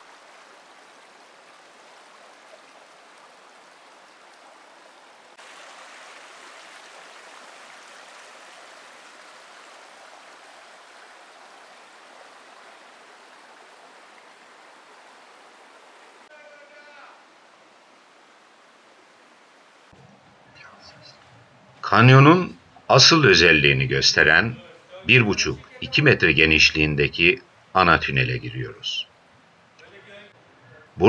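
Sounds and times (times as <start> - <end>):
stream water rushing: 0.0 - 30.6.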